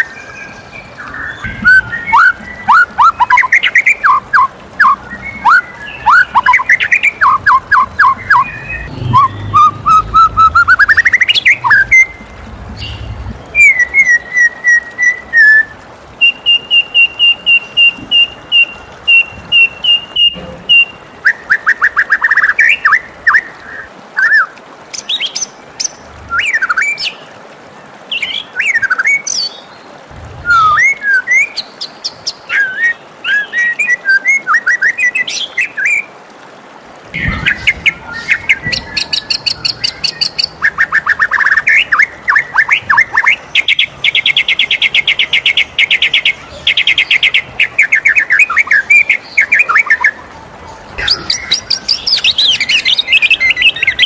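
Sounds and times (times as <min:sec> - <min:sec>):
bird singing whistled phrases: 0:00.2 - 0:12.2, 0:12.8 - 0:25.5, 0:26.3 - 0:27.2, 0:30.4 - 0:31.7, 0:32.5 - 0:36.1, 0:37.2 - 0:50.2, 0:51.0 - 0:54.0.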